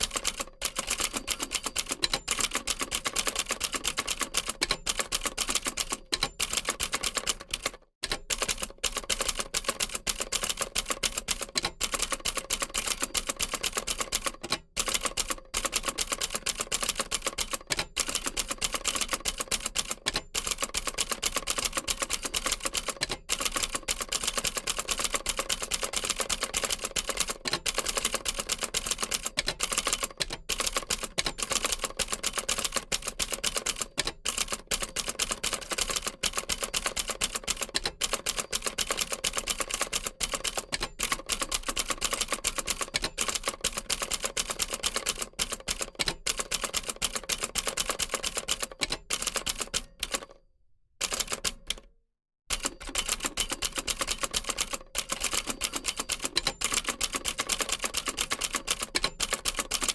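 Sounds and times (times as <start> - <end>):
manual typewriter key strikes: 0.0 - 50.3, 52.5 - 59.9.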